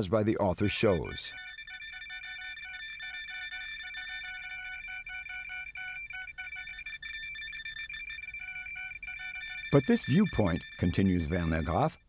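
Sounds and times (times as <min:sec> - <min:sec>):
high held tones: 0:00.7 - 0:12.0
short beeps: 0:01.0 - 0:12.0.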